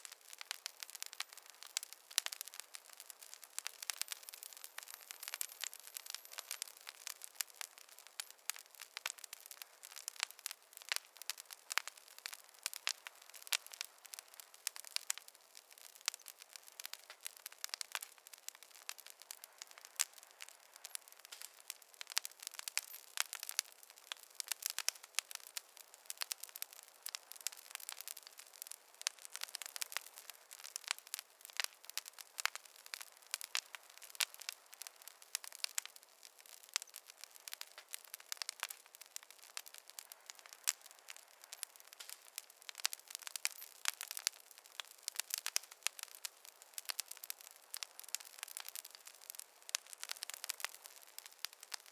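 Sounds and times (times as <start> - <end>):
campfire crackling and popping: 0.0 - 51.9
faint hiss: 0.0 - 51.9.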